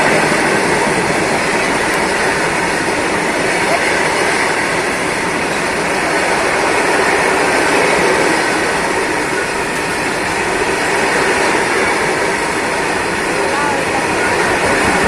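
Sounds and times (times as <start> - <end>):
train rushing at speed: 0.0 - 15.0.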